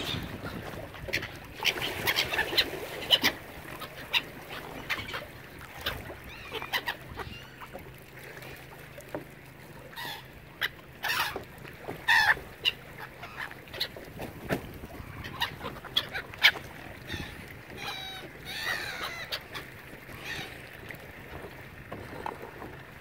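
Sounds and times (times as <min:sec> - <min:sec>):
gulls and ducks calling: 0:00.0 - 0:08.7, 0:09.6 - 0:23.0.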